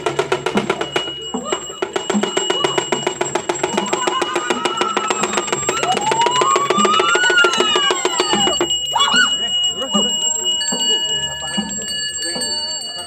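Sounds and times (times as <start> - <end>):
gamelan metallic strikes: 0.0 - 13.0.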